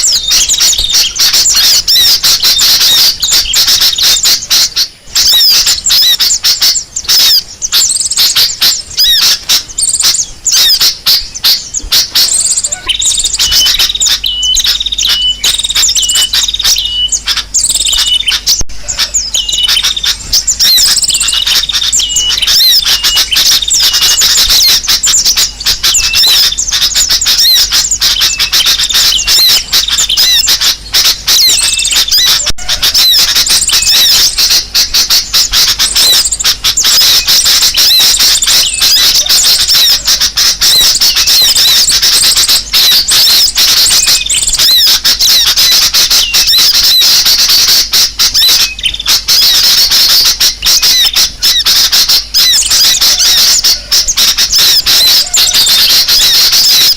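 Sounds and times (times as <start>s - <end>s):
small birds chirping and twittering: 0.0s - 56.9s.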